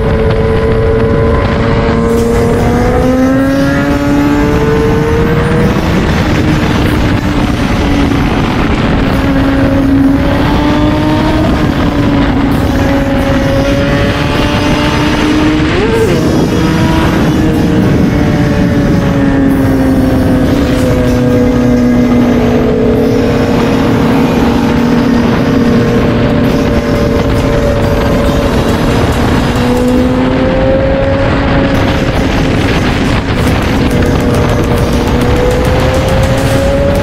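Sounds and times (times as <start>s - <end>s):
motorcycle engine cruising: 0.0s - 37.0s
wind rush on microphone: 0.0s - 37.0s.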